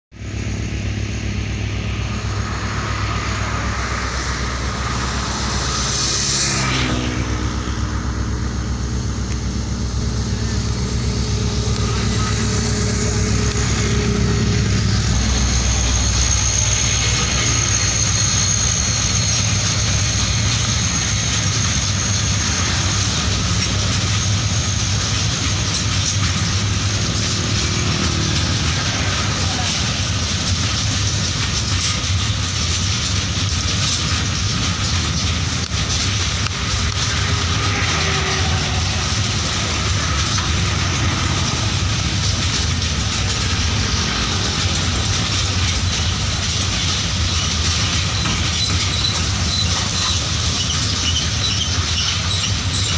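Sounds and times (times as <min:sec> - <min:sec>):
freight wagons rolling over rails: 0:00.2 - 0:52.9
locomotive engine rumble: 0:00.2 - 0:52.9.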